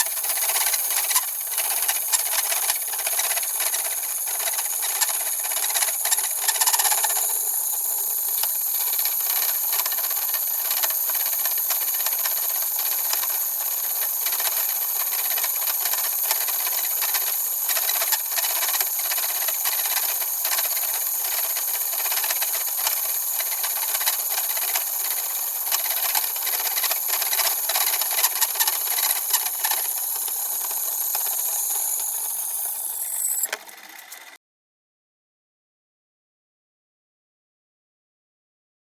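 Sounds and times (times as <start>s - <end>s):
metalworking machine cutting: 0.0s - 34.4s.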